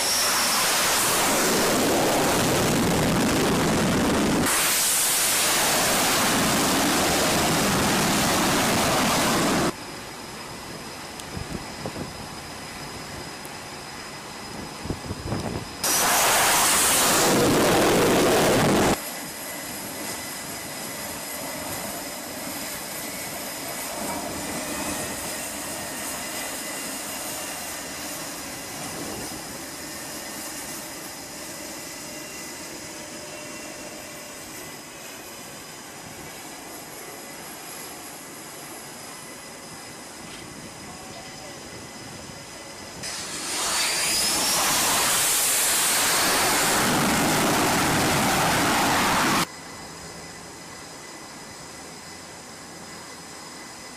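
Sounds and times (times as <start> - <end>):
jet engine blast: 0.0 - 9.8, 10.6 - 39.7, 40.4 - 49.5
faint high whine: 0.0 - 53.9
steady jet engine noise: 0.0 - 53.9.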